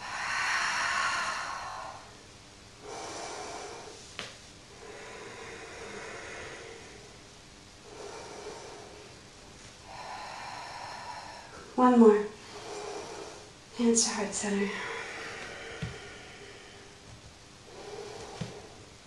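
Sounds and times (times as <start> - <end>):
woman breathing slowly: 0.0 - 19.0.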